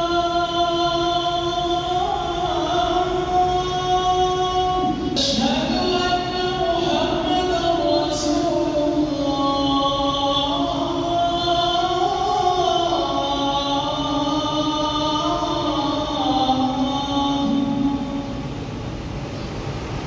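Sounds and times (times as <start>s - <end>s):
man chanting over loudspeakers: 0.0s - 18.5s.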